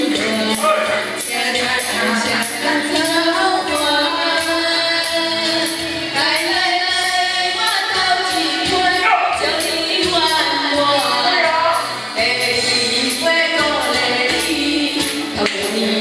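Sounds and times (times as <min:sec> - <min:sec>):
woman singing over a beat: 0:00.0 - 0:16.0.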